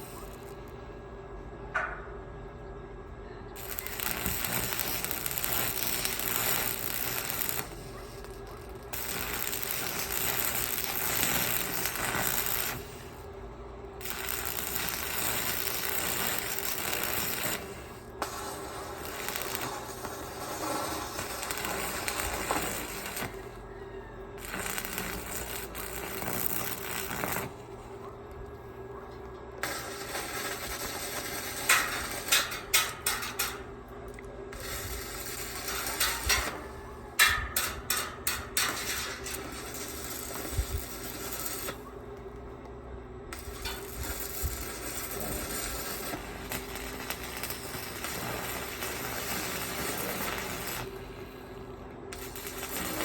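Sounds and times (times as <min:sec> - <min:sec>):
welding arc crackling and hissing: 0:00.0 - 0:00.8, 0:03.6 - 0:42.5, 0:43.2 - 0:53.0
steady hum: 0:00.0 - 0:53.0.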